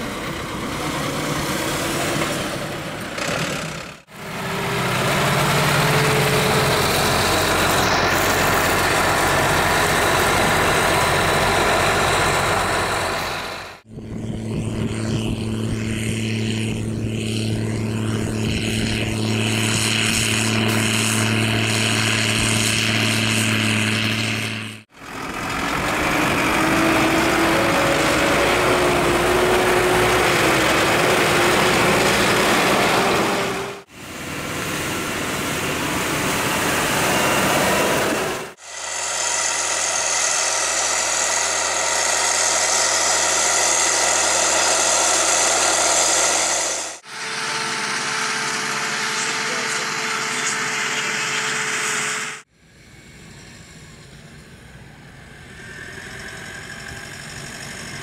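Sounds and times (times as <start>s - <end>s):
tractor diesel engines running: 0.0s - 58.0s.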